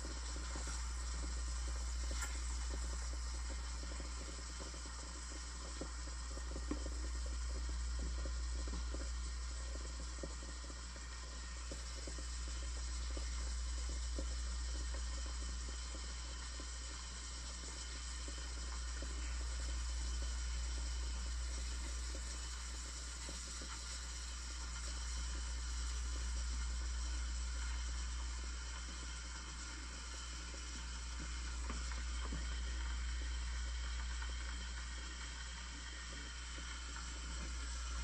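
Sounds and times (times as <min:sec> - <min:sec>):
steam wand hissing in milk: 0:00.0 - 0:38.0.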